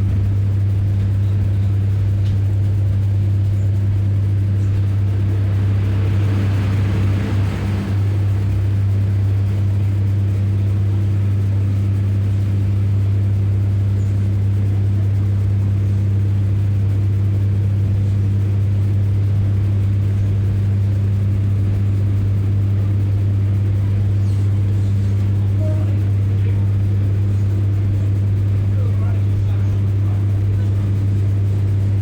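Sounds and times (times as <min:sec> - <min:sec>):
diesel railbus engine drone: 0:00.0 - 0:32.0.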